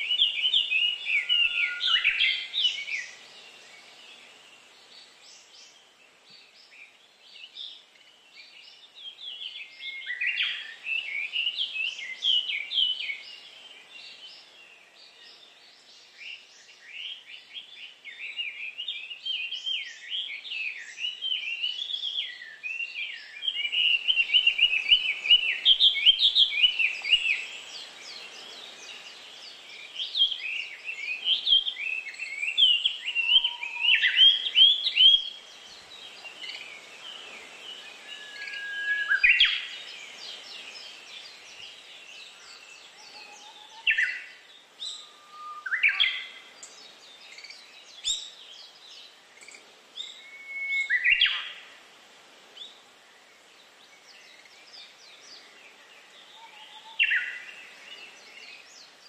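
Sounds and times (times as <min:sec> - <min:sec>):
faint steady hiss: 0:00.0 - 0:59.0
songbirds singing and calling: 0:00.0 - 0:59.0.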